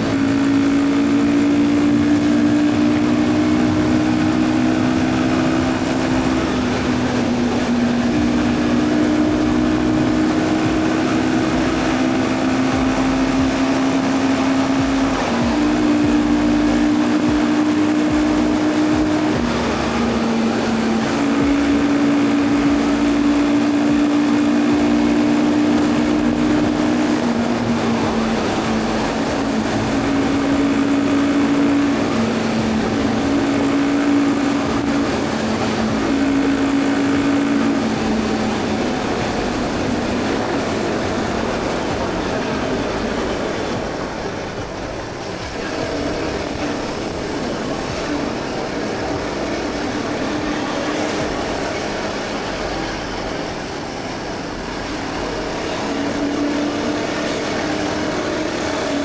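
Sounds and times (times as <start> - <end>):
droning tones: 0.0 - 59.0
motorcycle engine cruising: 0.0 - 59.0
wind rushing on microphone: 0.0 - 59.0.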